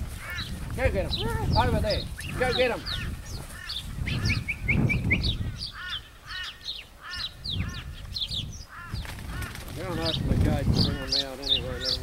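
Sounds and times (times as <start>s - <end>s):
birds squawking and chirping: 0.0s - 12.0s.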